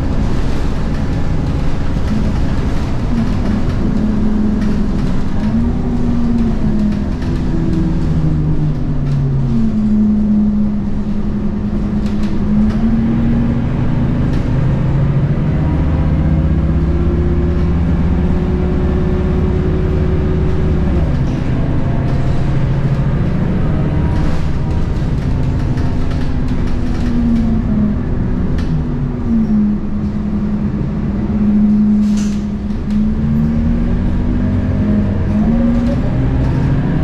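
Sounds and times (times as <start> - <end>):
bus diesel engine changing gears: 0.0 - 37.0.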